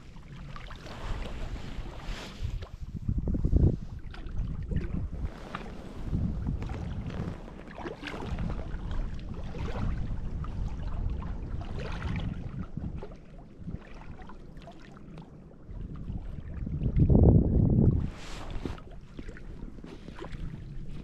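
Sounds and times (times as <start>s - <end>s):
wind buffeting microphone: 0.0s - 14.4s, 15.6s - 21.0s.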